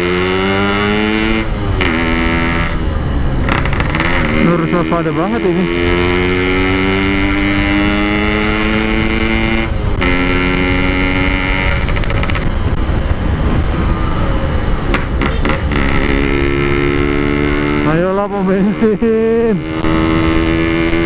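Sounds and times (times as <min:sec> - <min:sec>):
motorcycle engine accelerating: 0:00.0 - 0:21.0
wind and road noise: 0:00.0 - 0:21.0.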